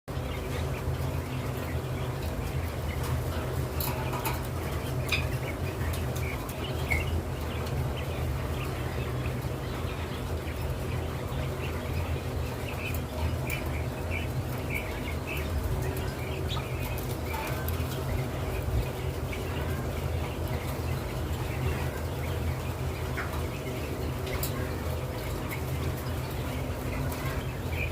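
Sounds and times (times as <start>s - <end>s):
birds chirping: 0.1s - 27.9s
steady low hum: 0.1s - 27.9s.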